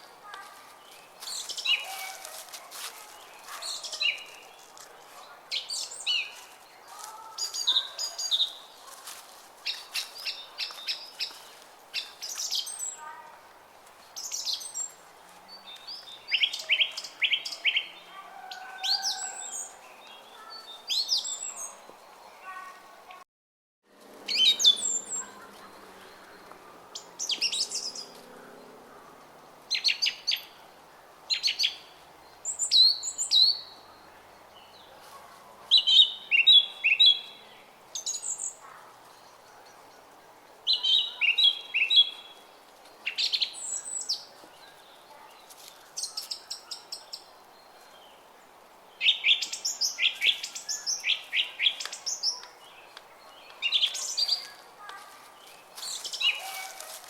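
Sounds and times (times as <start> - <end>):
songbirds chirping: 0.0 - 23.2, 24.0 - 57.0.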